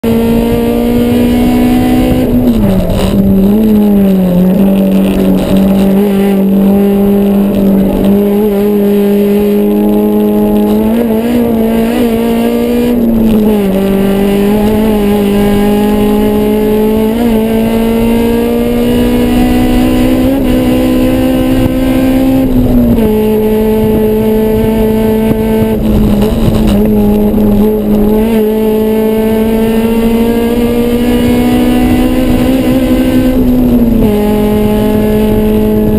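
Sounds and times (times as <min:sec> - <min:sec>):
race car engine at high revs: 0:00.0 - 0:35.9.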